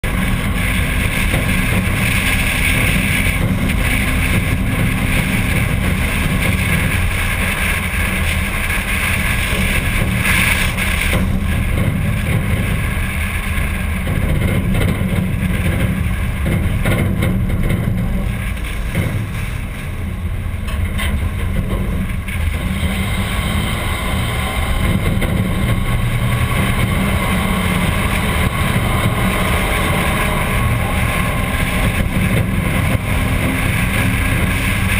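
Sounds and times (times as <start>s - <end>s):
car engine rumble: 0.0s - 34.9s
road noise: 0.0s - 34.9s.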